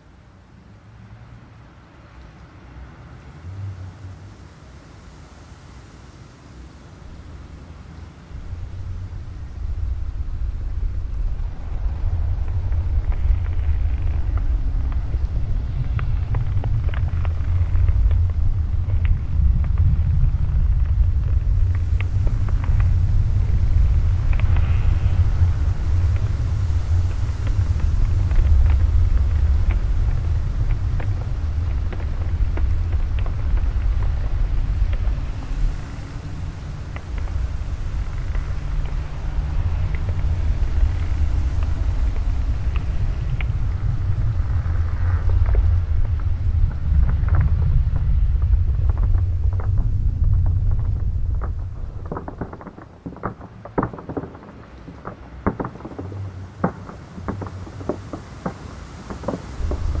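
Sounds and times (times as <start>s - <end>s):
rain falling: 2.1s - 60.0s
deep rumble of thunder: 8.4s - 60.0s
sharp thunder crackles: 10.6s - 60.0s.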